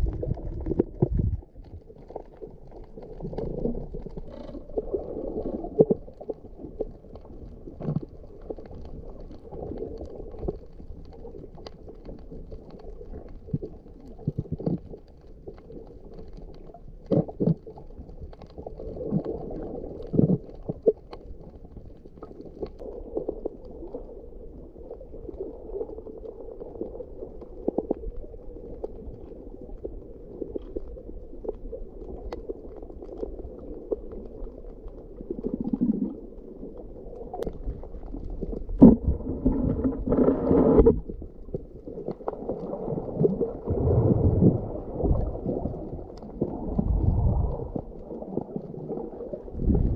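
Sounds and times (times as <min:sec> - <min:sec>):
underwater rumbling: 0:00.0 - 0:49.9.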